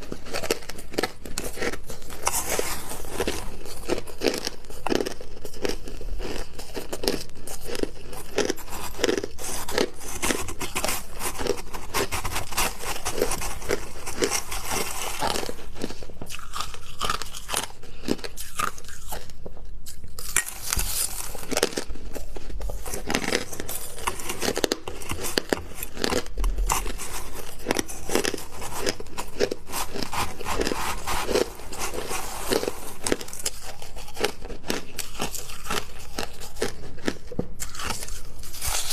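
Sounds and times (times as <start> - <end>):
crunching ice between teeth: 0.0 - 38.9.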